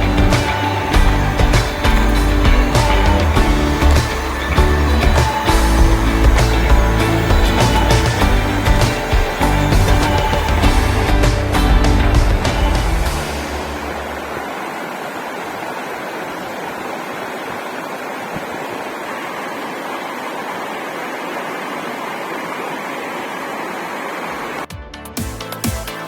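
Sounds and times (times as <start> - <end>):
waterfall rushing: 0.0 - 24.7.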